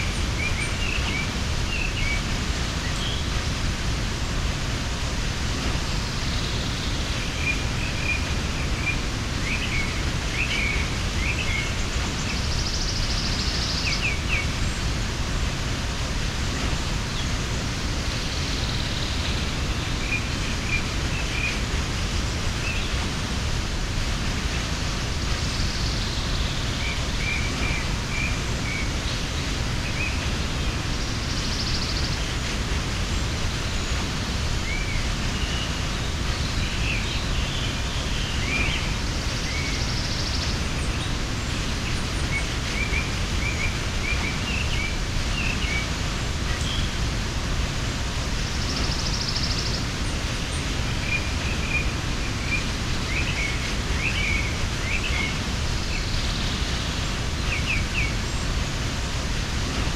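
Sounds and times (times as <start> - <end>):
small birds chirping: 0.0 - 59.9
waterfall rushing: 0.0 - 59.9.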